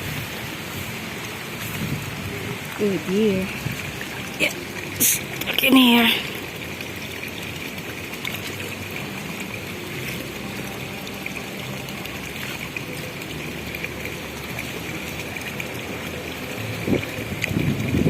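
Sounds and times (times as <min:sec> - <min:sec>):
running water rushing and trickling: 0:00.0 - 0:18.0.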